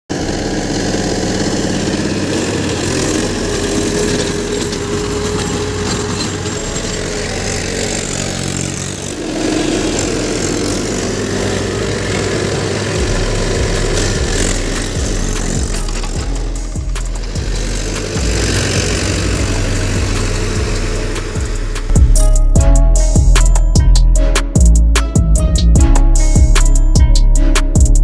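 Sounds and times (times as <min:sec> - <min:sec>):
tractor diesel engine under load: 0:00.1 - 0:28.0.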